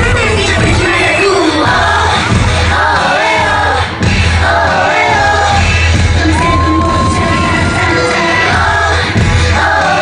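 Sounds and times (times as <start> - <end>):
pop music over loudspeakers: 0.0 - 10.0.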